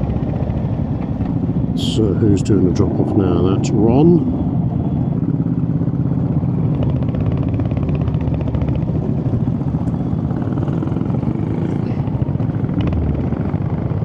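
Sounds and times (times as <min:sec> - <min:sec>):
motorcycle engine running: 0:00.0 - 0:02.1, 0:04.4 - 0:14.0.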